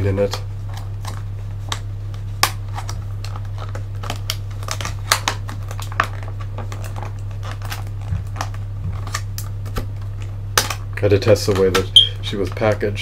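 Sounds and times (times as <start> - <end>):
low electrical hum: 0.0 - 13.0
plastic packaging crackling: 0.1 - 13.0.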